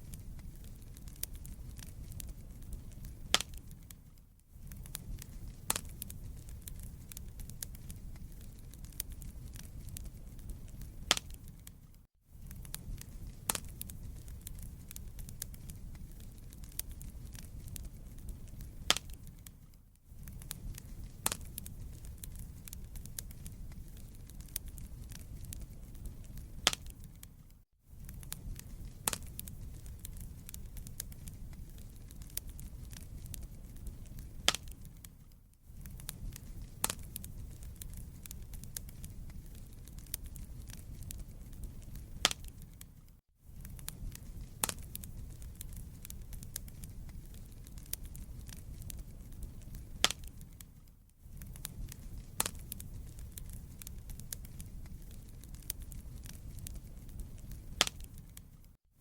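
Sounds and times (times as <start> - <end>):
wood fire crackling and popping: 0.0 - 58.8.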